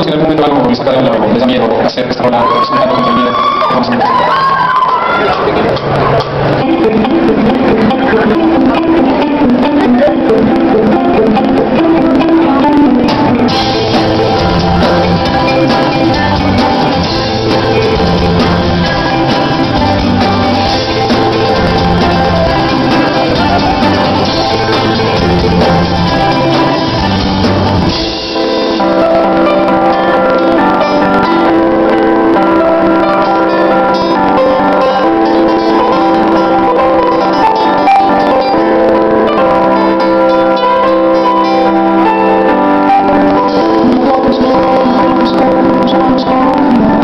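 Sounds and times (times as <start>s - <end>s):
live band playing: 0.0s - 47.0s.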